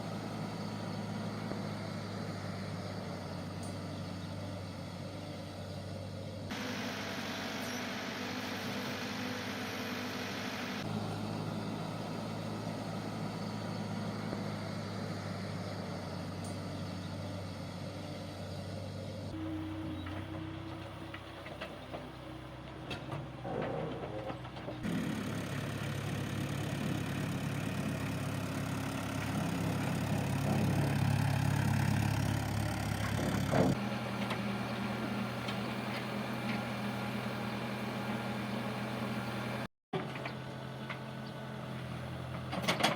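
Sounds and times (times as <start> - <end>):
backhoe diesel engine running: 0.0 - 42.9.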